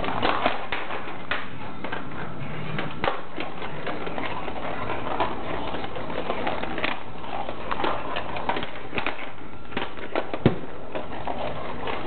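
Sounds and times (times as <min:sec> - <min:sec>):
ball rolling on hard surface: 0:00.0 - 0:12.0.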